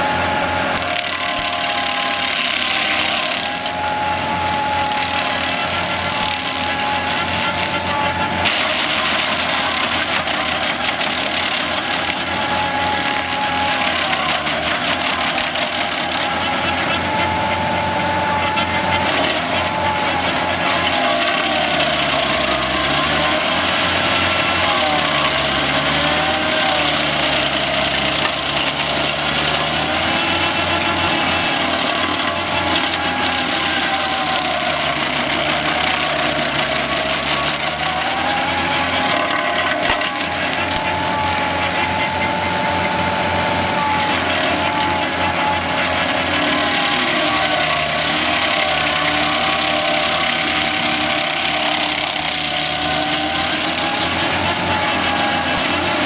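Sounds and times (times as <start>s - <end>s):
stump grinder drone: 0.0s - 56.0s
wood grinding hiss: 0.0s - 56.0s.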